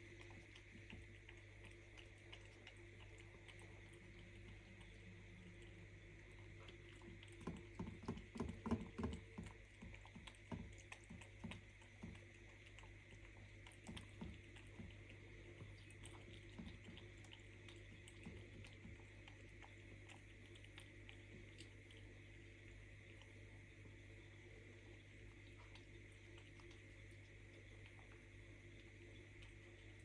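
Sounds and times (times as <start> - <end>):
cat chewing: 0.0 - 30.0
steady low hum: 0.0 - 30.0.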